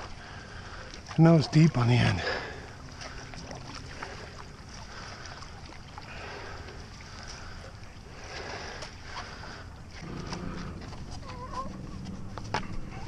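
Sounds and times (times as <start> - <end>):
paddle swishing through water: 0.0 - 13.0.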